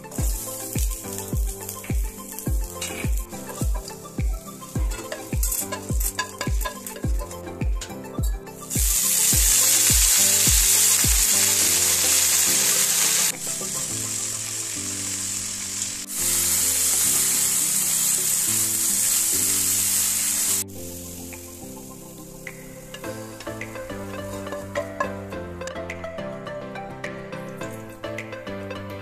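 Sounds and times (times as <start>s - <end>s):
leaves sizzling in a pan: 0.0s - 7.4s, 8.6s - 25.0s.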